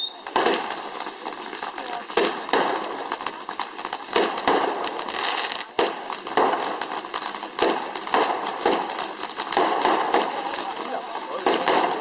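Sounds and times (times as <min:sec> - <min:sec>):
fireworks bangs: 0:00.0 - 0:12.0
fireworks cracking and crackling: 0:00.0 - 0:12.0.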